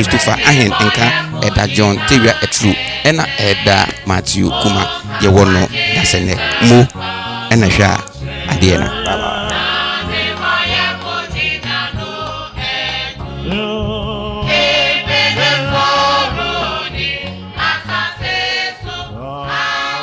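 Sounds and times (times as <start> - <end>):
gospel choir singing: 0.0 - 20.0
instrumental backing with bass: 0.0 - 20.0.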